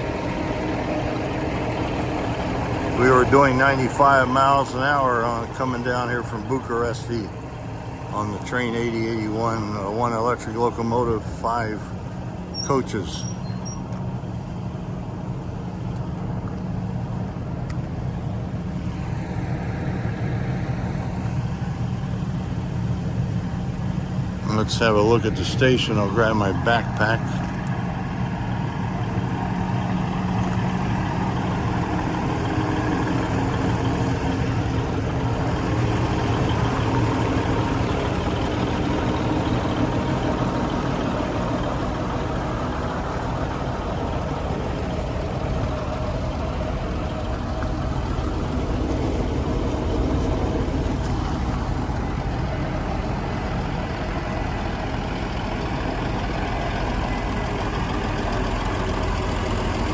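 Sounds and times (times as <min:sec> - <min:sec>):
diesel train engine idling: 0:00.0 - 0:59.9.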